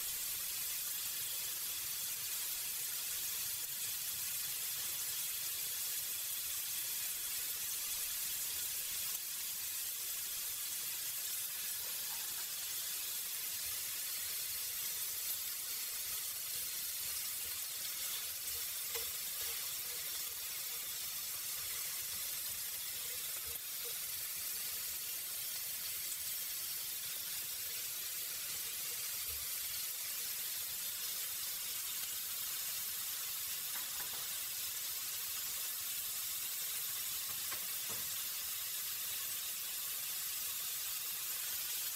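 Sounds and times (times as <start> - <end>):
meat sizzling in grill pan: 0.0 - 41.9.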